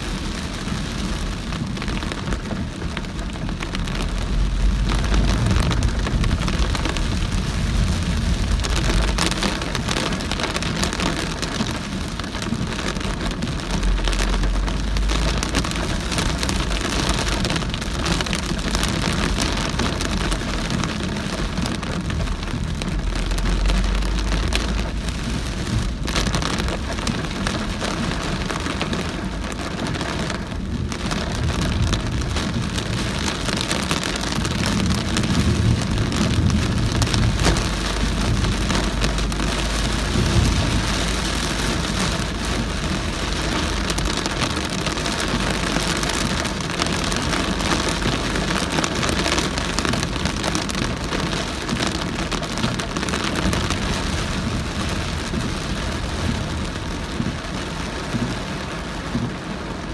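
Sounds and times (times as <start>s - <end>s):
deep low rumble: 0.0s - 57.7s
heavy rain on a car: 0.0s - 59.9s
tyre and road noise: 0.0s - 59.9s.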